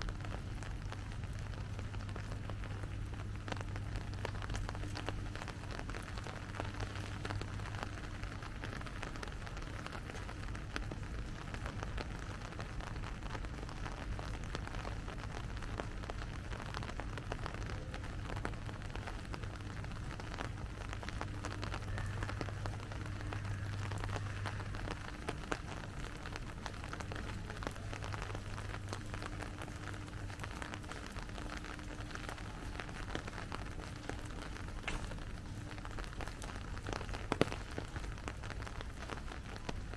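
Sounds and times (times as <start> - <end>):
low steady hum: 0.0 - 39.9
rain pattering: 0.0 - 39.9.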